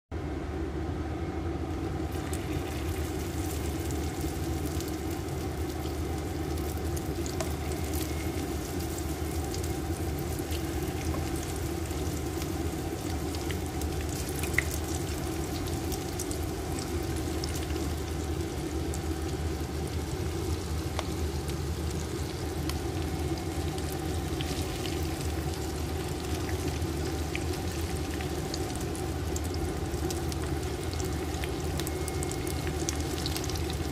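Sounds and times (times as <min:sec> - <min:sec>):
low hum: 0:00.2 - 0:33.9
fish frying in oil: 0:01.9 - 0:33.9.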